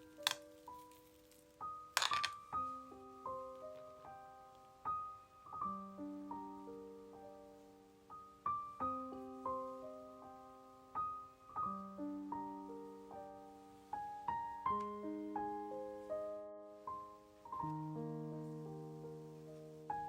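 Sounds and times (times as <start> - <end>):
soft solo piano melody: 0.0 - 20.0.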